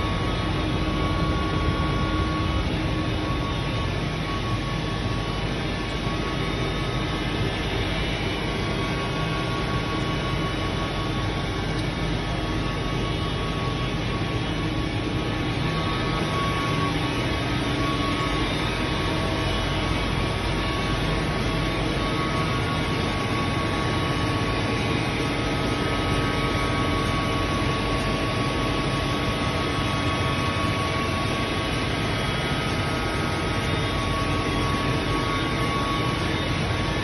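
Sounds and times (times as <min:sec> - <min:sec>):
printing press machine drone: 0:00.0 - 0:37.0
thin steady whine: 0:00.0 - 0:37.0.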